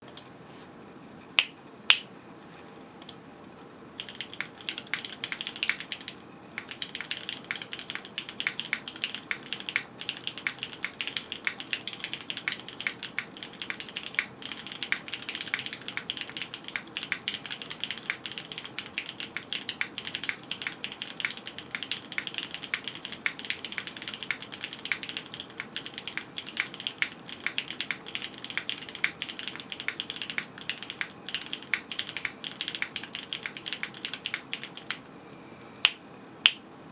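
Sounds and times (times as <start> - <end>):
mechanical keyboard key clacks: 4.0 - 35.0.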